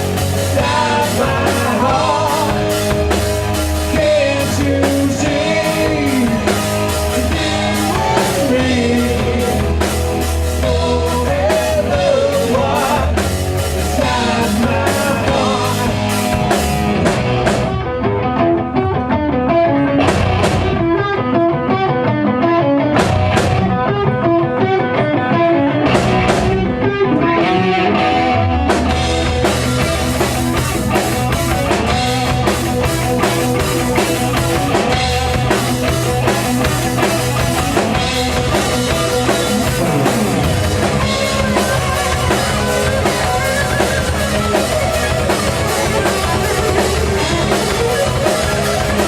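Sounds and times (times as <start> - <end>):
electric guitar lines: 0.0 - 49.0
rock band playing live: 0.0 - 49.0.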